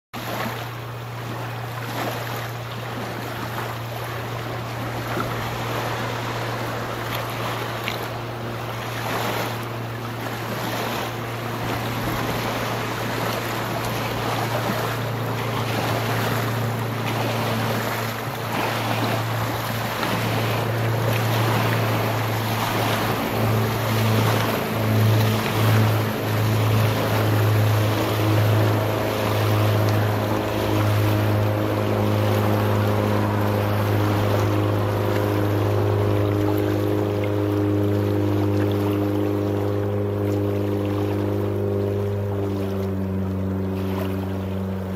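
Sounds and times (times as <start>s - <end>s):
boat engine drone: 0.2s - 44.9s.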